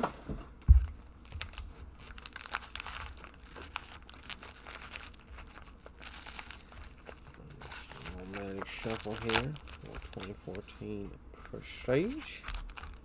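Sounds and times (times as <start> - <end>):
card packs crinkling: 0.8 - 13.0.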